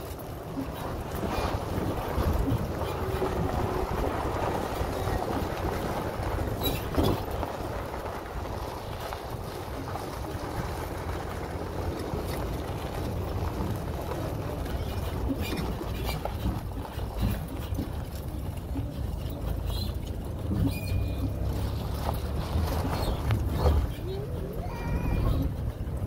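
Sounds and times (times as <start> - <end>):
low vehicle rumble: 0.0 - 26.0
wind buffeting microphone: 0.0 - 26.0.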